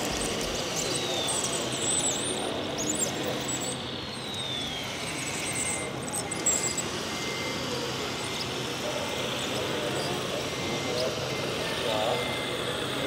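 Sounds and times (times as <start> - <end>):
faint indistinct voices: 0.0 - 13.0
outdoor background noise: 0.0 - 13.0
thin whine falling in pitch: 0.0 - 13.0.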